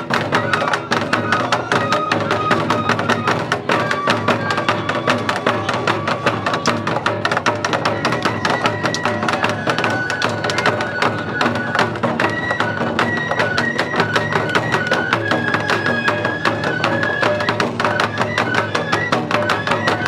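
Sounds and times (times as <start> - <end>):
high flute melody: 0.0 - 20.0
rapid drum strikes: 0.0 - 20.0.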